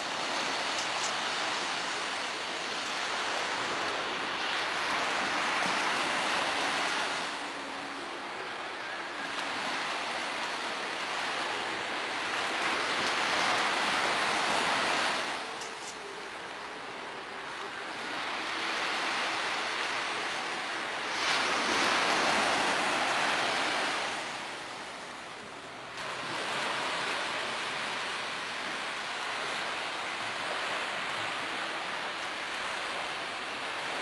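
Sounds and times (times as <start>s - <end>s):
ocean surf washing on beach: 0.0s - 34.0s.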